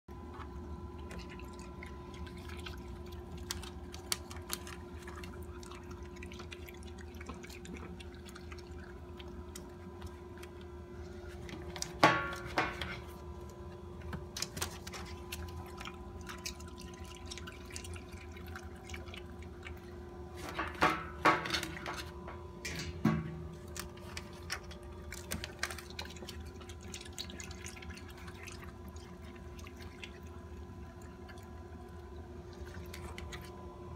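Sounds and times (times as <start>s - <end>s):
steady hum: 0.1s - 33.9s.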